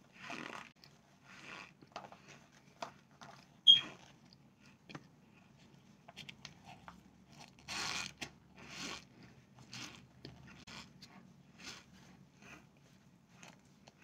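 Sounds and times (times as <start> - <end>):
chewing squeaky crunchy food: 0.0 - 2.4, 3.4 - 5.5, 6.2 - 14.0.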